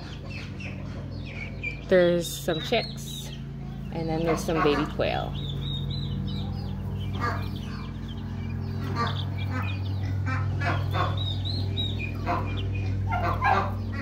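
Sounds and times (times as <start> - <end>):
chicks peeping and chirping: 0.0 - 14.0
steady low hum: 0.0 - 14.0.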